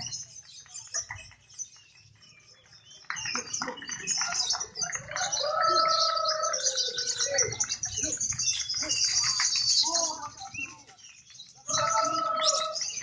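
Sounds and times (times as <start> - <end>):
lovebirds chirping: 0.0 - 13.0.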